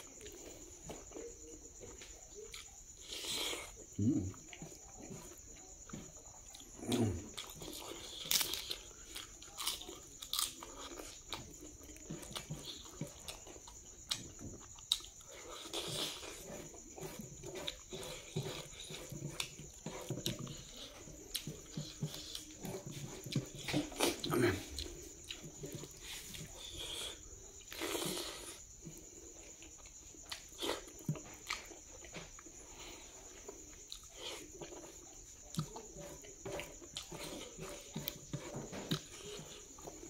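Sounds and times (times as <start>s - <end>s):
chewing and crunching food: 0.0s - 40.0s.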